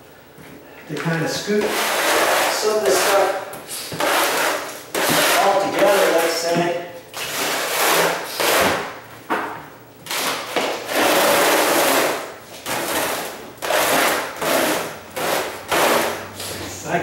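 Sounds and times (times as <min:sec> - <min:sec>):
tile scraping along subfloor: 0:01.2 - 0:08.8, 0:10.6 - 0:16.7.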